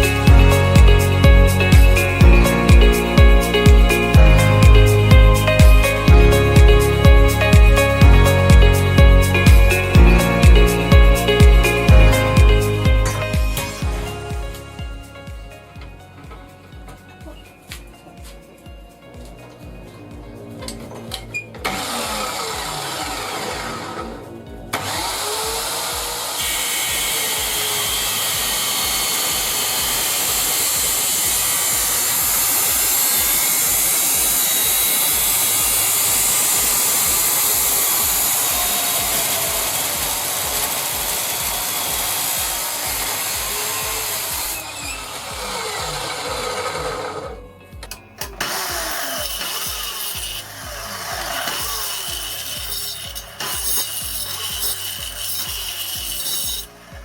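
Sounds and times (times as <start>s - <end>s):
power saw cutting: 0.0s - 15.0s, 19.7s - 57.0s
upbeat background music: 0.0s - 57.0s.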